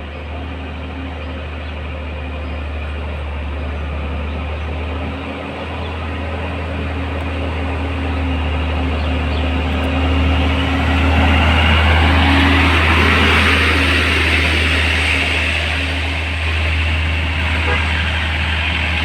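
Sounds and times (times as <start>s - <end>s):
truck diesel engine labouring: 0.0s - 19.0s.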